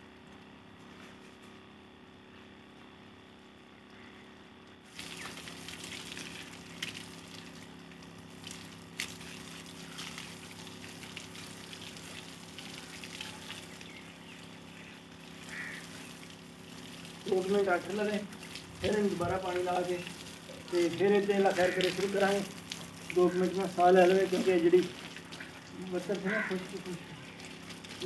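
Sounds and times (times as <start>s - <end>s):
hose water spraying on brick wall: 4.8s - 28.0s.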